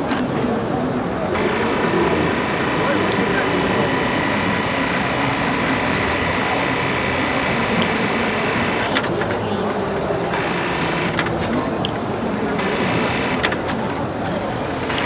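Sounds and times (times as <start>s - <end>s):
sewing machine whine: 0.7s - 15.0s
sharp clicks: 1.3s - 15.0s.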